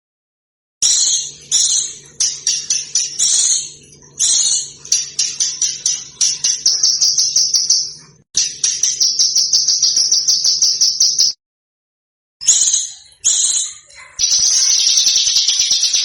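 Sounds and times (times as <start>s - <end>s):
small songbird singing: 0.8s - 11.4s, 12.4s - 16.0s.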